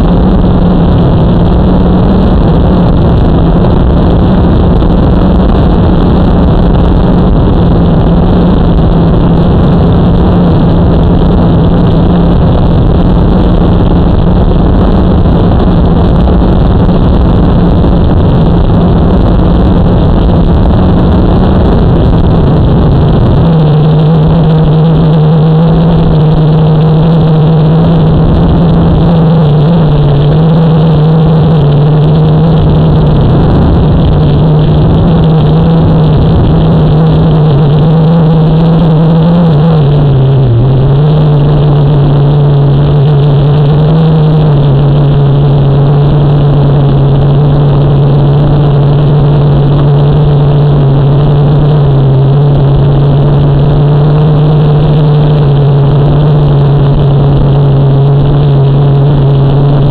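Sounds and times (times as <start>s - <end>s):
small aircraft propeller drone: 0.0s - 59.9s.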